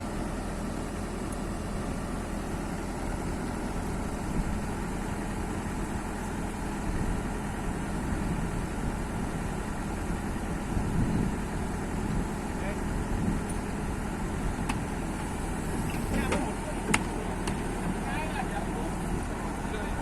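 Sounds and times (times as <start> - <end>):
large engine idling: 0.0 - 20.0.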